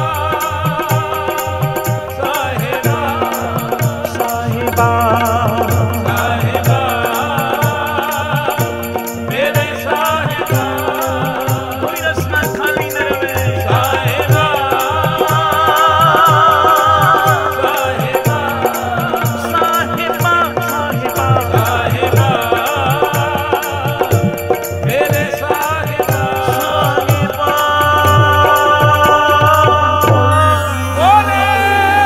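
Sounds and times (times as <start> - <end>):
harmonium melody: 0.0 - 32.0
tabla strokes: 0.0 - 32.0.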